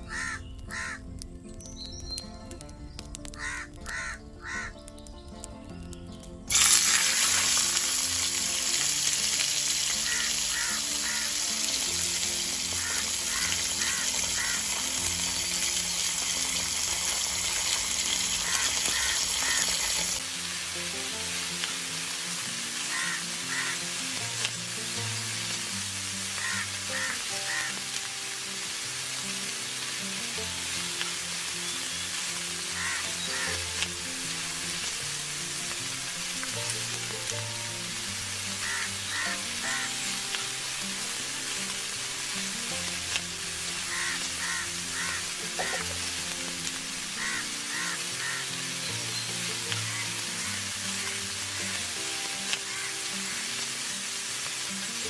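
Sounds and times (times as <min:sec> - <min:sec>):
cutlets sizzling in hot oil: 0:06.5 - 0:55.0.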